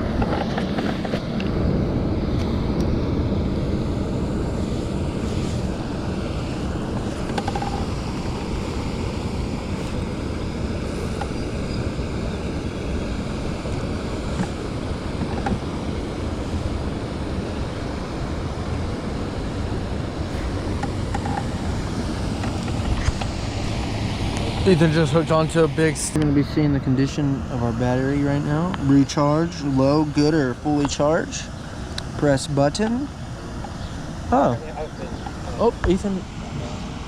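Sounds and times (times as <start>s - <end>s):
water noise around boat: 0.0s - 37.0s.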